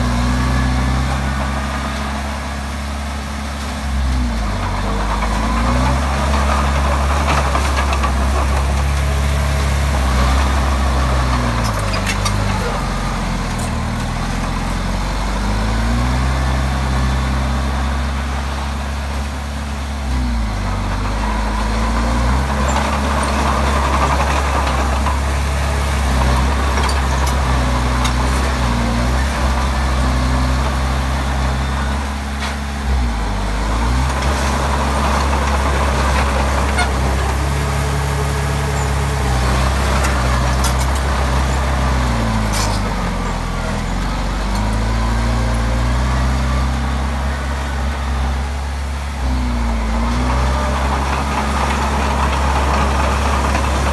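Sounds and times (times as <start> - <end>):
bulldozer diesel engine working: 0.0 - 53.9.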